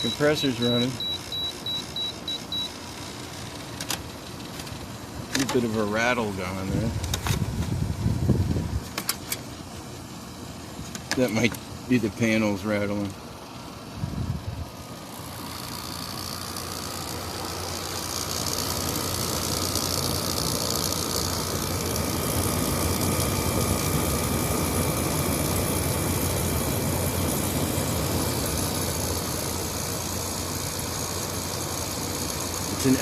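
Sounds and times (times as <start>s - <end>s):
air conditioner compressor humming: 0.0s - 33.0s
fan rushing: 0.0s - 33.0s.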